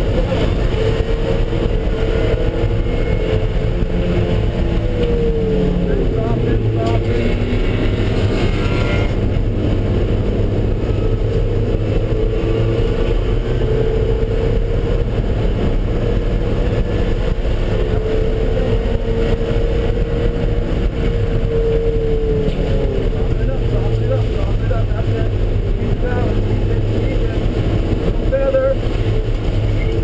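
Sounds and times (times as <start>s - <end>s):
car engine running under load: 0.0s - 30.0s
road and wind noise: 0.0s - 30.0s.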